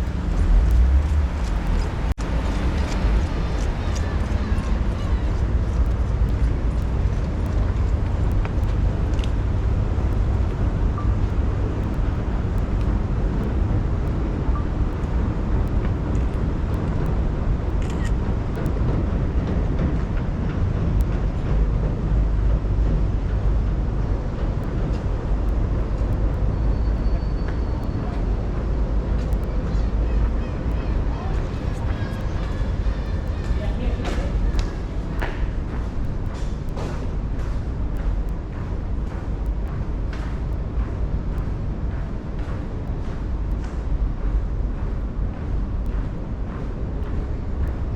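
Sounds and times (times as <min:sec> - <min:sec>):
low city street rumble: 0:00.0 - 0:47.9.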